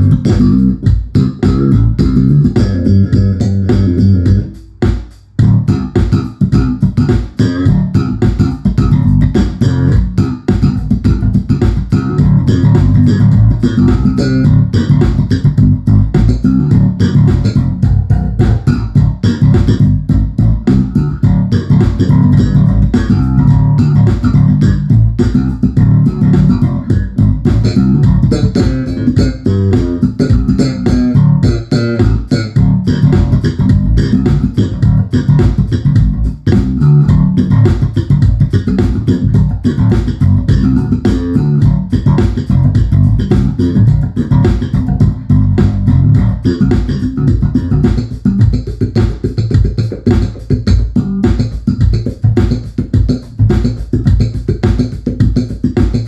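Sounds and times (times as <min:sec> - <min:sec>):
electric bass played fingerstyle: 0:00.0 - 0:56.0.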